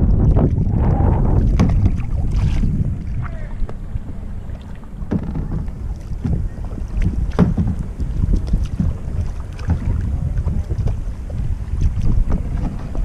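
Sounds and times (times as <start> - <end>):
paddles splashing in water: 0.0 - 13.0
wind buffeting microphone: 0.0 - 13.0.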